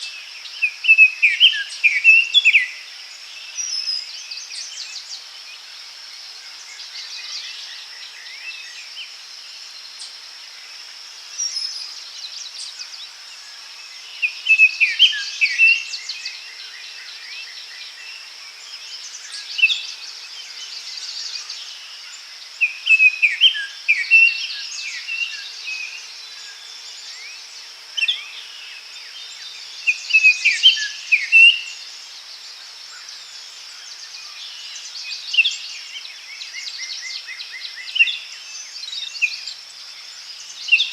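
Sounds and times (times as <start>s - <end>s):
birds singing and chirping: 0.0s - 5.7s, 11.3s - 40.9s.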